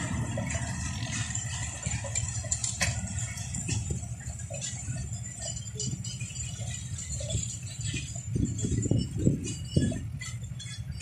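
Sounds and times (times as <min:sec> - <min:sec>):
distant train rumbling past: 0:00.0 - 0:11.0
train wheels clicking on track: 0:00.0 - 0:11.0.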